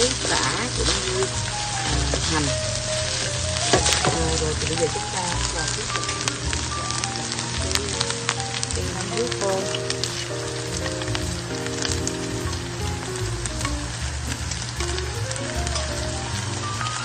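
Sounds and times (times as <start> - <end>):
wooden spatula stirring: 0.0 - 14.8
background music: 0.0 - 17.0
meat sizzling in a frying pan: 0.0 - 17.0.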